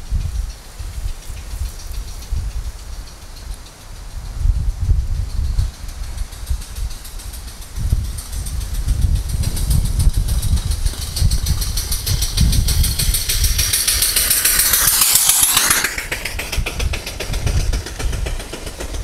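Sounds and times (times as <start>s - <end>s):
steam engine exhaust chuffs: 0.0s - 19.0s
steam hissing: 0.0s - 19.0s.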